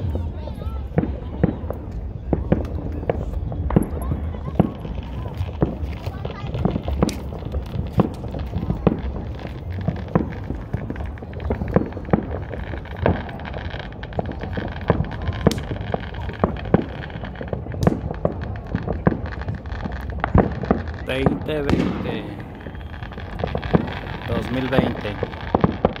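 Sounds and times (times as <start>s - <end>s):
fireworks pops and bangs: 0.0s - 26.0s.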